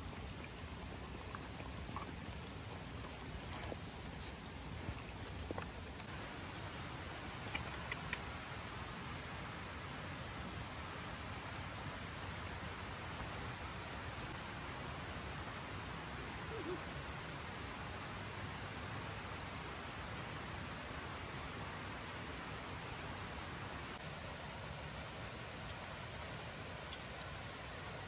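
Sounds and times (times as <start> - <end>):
low background hiss: 0.0 - 28.0.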